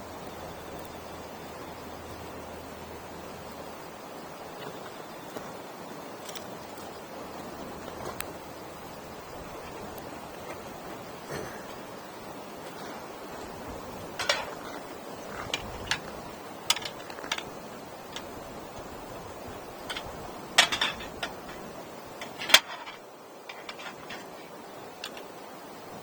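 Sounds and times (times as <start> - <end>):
fire crackles and pops: 0.0 - 5.6, 6.2 - 25.4
wood fire hissing: 0.0 - 26.0.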